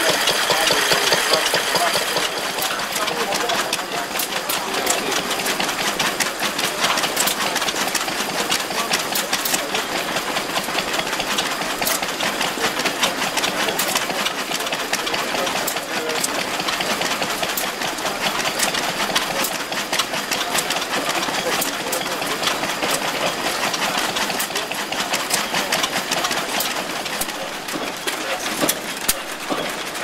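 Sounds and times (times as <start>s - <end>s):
engine running with uneven clatter: 0.0s - 30.0s.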